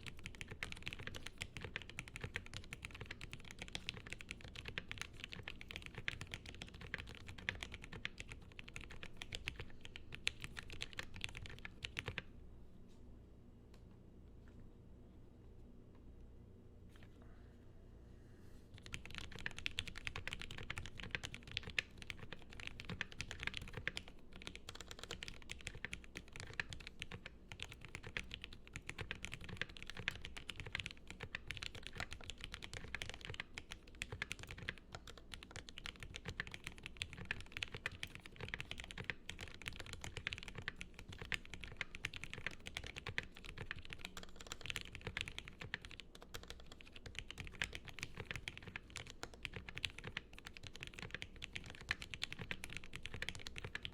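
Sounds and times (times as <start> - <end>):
fast typing on mechanical keyboard: 0.0 - 12.3, 18.8 - 53.9.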